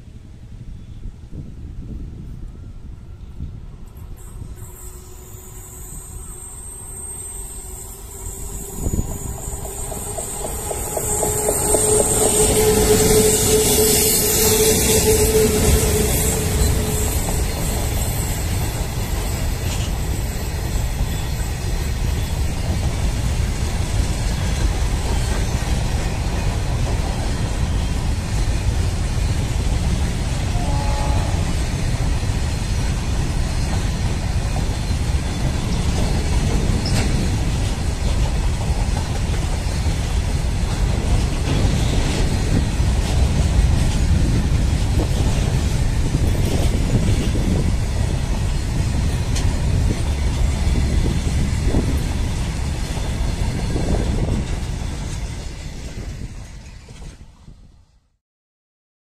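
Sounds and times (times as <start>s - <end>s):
freight train wagons rolling on rails: 3.8s - 57.8s.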